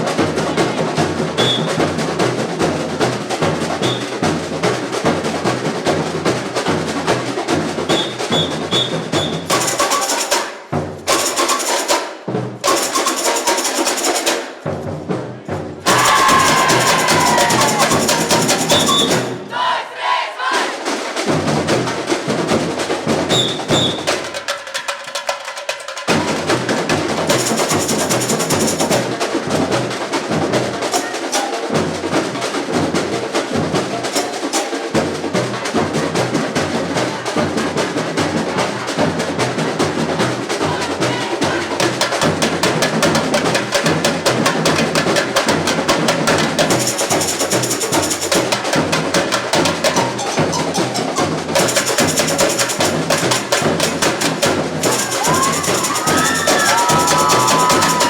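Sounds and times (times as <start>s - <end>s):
samba drumming: 0.0s - 58.0s.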